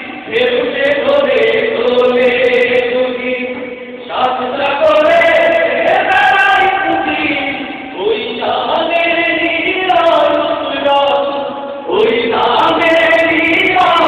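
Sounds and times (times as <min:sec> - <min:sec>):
men singing together: 0:00.0 - 0:14.0.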